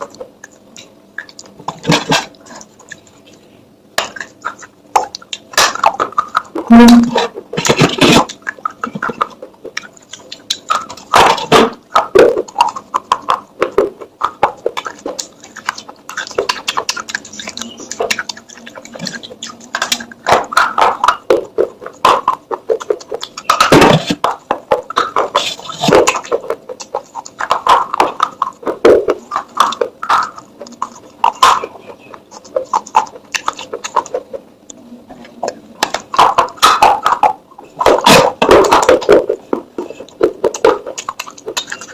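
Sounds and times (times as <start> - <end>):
clay pots clicking and knocking: 0.0 - 41.9.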